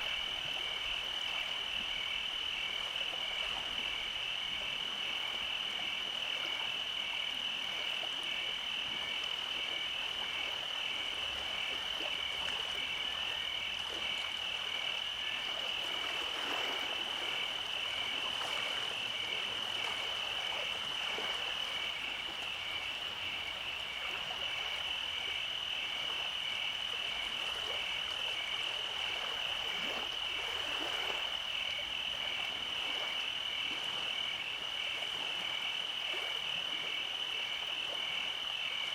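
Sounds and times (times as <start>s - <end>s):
frogs and insects trilling: 0.0s - 38.9s.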